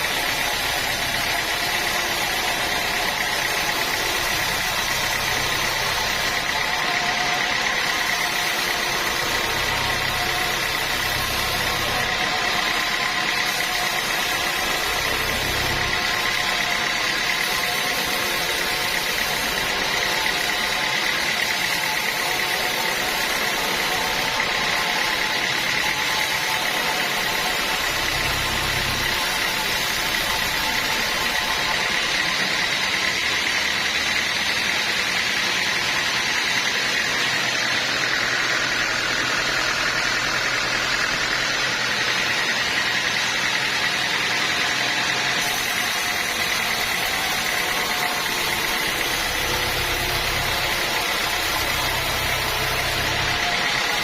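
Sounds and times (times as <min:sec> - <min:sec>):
high whine: 0:00.0 - 0:54.0
sawmill saw cutting logs: 0:00.0 - 0:54.0.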